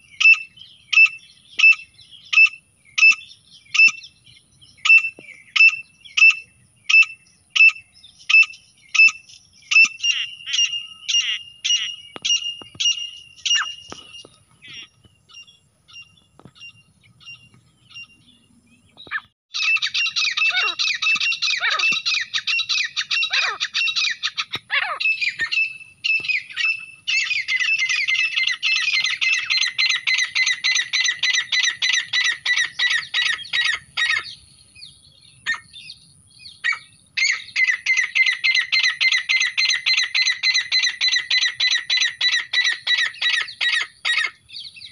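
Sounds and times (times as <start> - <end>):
francolin calls: 0.0 - 44.9.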